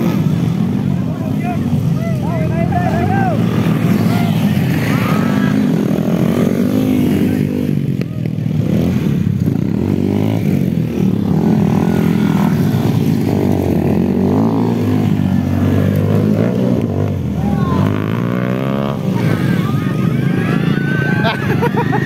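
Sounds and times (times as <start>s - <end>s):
small motorcycle engines revving: 0.0s - 22.0s.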